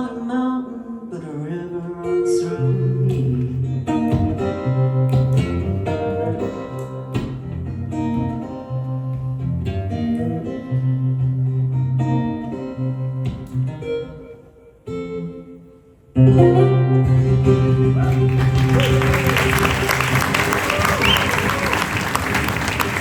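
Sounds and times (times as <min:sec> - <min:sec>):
acoustic guitars strummed: 0:01.4 - 0:23.0.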